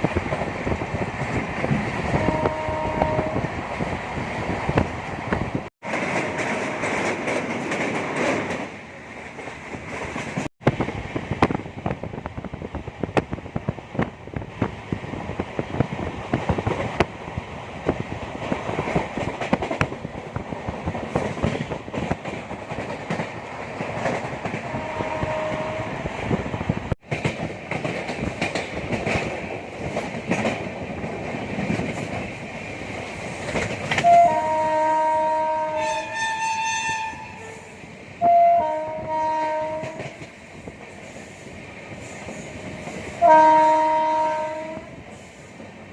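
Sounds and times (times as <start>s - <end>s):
train coach rumble: 0.0s - 45.9s.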